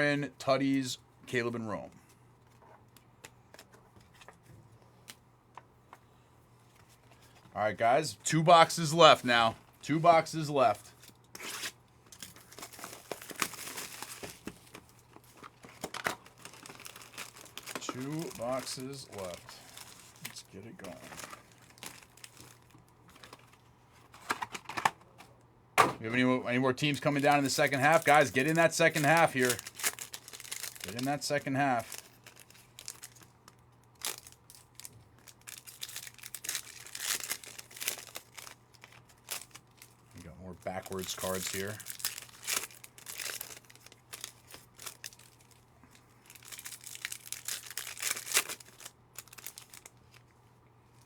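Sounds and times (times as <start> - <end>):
card packs crinkling and tearing: 8.5 - 25.0, 25.8 - 50.3.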